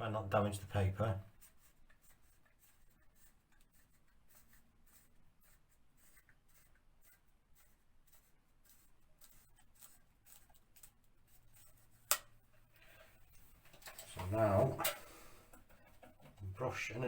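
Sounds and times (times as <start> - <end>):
knife scratching wallpaper: 0.6 - 16.0.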